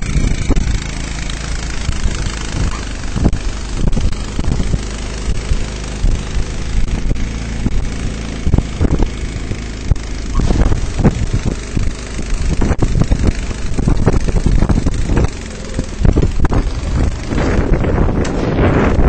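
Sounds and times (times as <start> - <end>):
vehicle engine running: 0.0 - 19.0
low thumps: 1.7 - 19.0.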